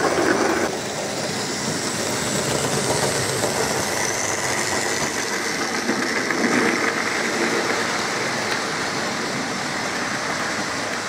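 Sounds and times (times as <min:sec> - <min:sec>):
model train rolling rattle: 0:00.0 - 0:11.0.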